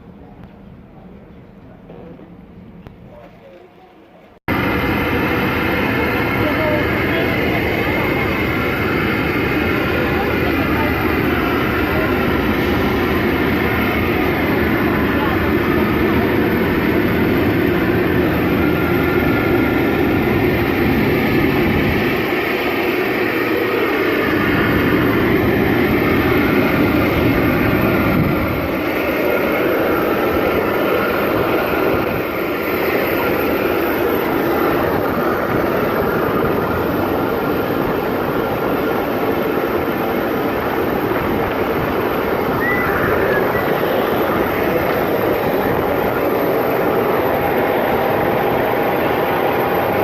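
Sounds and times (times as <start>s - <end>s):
parked airliner rushing hum: 4.4s - 50.0s.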